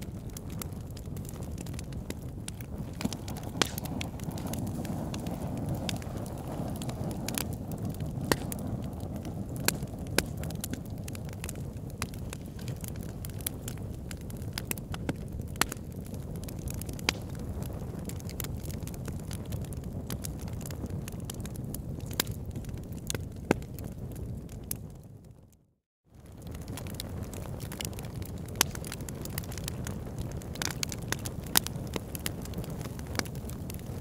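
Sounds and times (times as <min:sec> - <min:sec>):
fireplace fire crackling: 0:00.0 - 0:25.1, 0:26.2 - 0:34.0.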